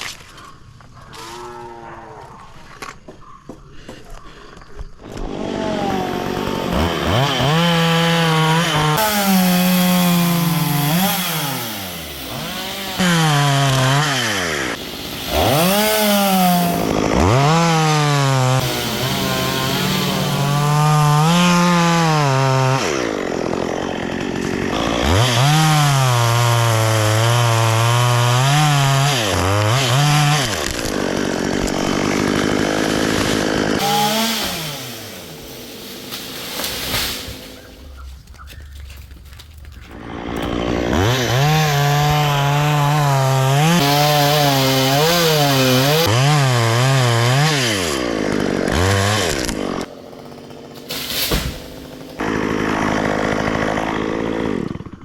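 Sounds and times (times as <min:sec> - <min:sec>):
chainsaw cutting wood: 0:05.0 - 0:55.0.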